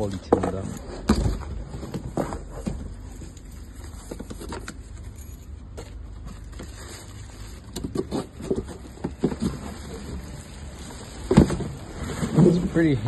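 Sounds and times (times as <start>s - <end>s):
cardboard and plastic wrap crinkling: 0.0s - 13.0s.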